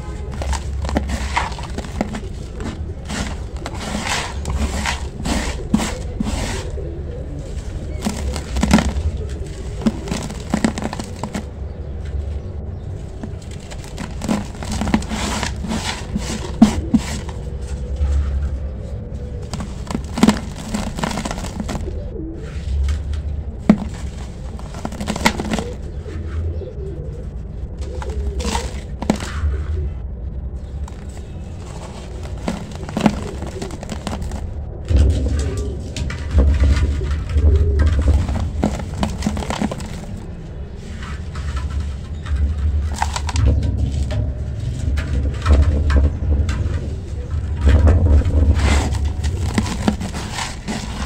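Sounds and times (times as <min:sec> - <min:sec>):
hand scraping gritty powder in pot: 0:00.0 - 0:11.6, 0:13.1 - 0:18.5, 0:19.3 - 0:22.7, 0:23.7 - 0:26.2, 0:27.8 - 0:29.4, 0:30.8 - 0:42.2, 0:42.8 - 0:44.8, 0:47.5 - 0:51.0.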